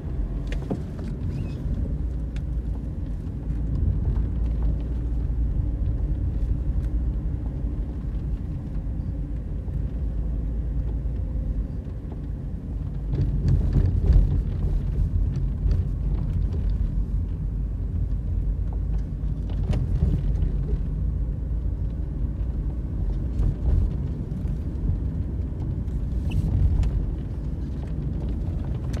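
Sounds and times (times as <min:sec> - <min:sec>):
low rumble of engine and tyres: 0:00.0 - 0:29.0.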